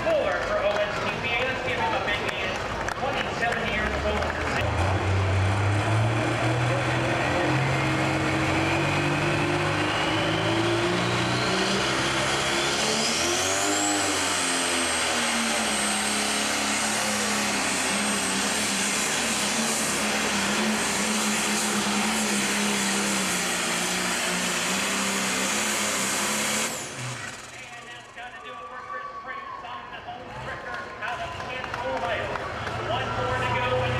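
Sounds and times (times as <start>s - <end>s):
diesel engine running flat out: 0.0s - 29.3s, 30.2s - 33.9s.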